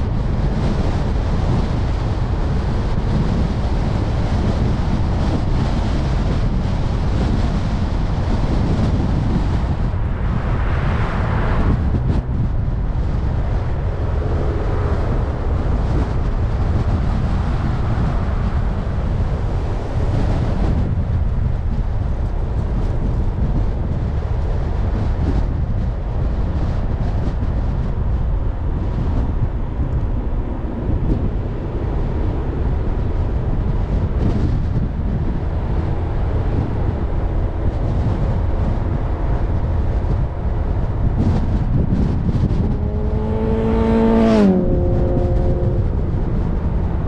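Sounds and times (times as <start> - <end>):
road and tyre rumble: 0.0 - 47.0
wind noise: 0.0 - 47.0.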